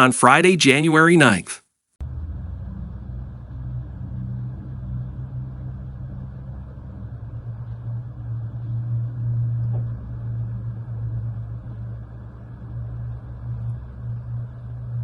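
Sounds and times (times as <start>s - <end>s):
steady low rumble: 2.0s - 15.0s.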